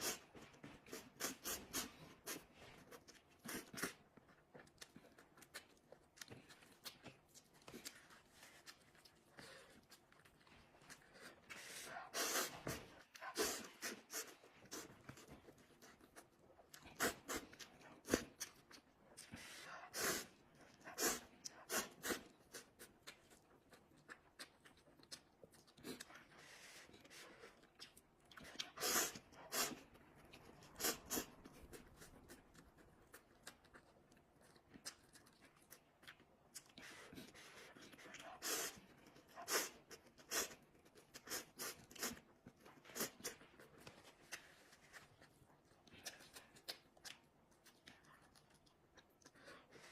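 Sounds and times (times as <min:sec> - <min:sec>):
wet chewing and mouth smacks: 0:00.0 - 0:19.6, 0:20.2 - 0:49.9.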